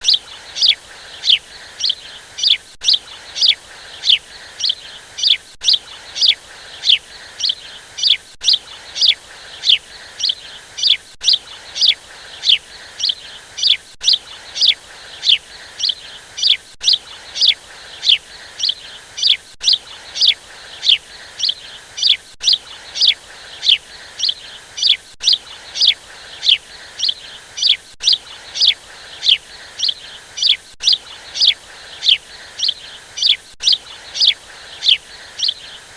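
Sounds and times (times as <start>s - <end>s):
baby budgie chirping: 0.0s - 35.8s.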